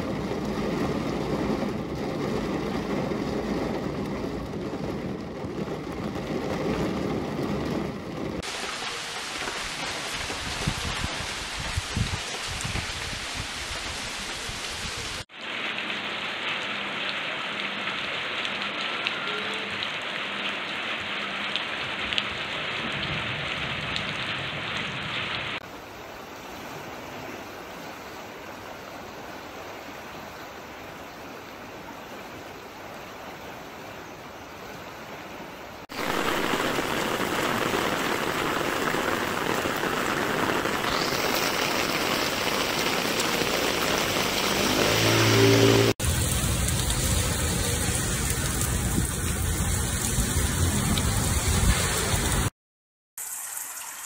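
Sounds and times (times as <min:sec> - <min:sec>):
rain on leafy plants: 0:00.0 - 0:33.9, 0:35.2 - 0:52.5, 0:53.2 - 0:54.0
heavy rain on paved street: 0:00.0 - 0:52.5, 0:53.2 - 0:54.0
rain falling: 0:00.0 - 0:52.5, 0:53.2 - 0:54.0.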